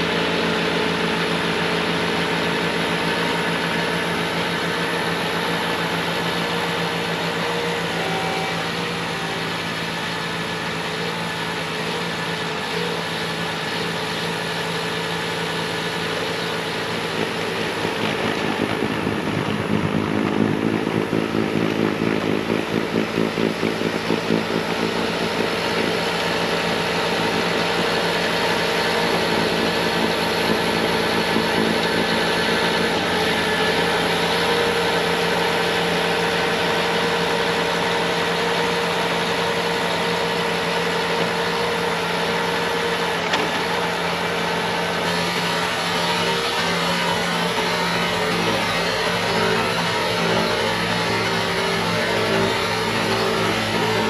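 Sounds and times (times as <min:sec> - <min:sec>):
diesel engine at full throttle: 0:00.0 - 0:54.0.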